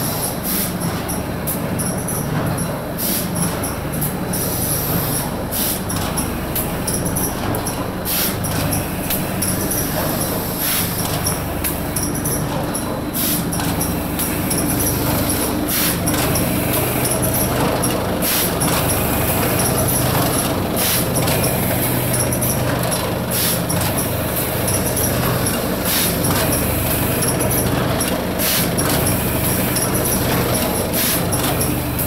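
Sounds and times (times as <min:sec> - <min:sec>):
packing machine mechanical hum: 0:00.0 - 0:32.0.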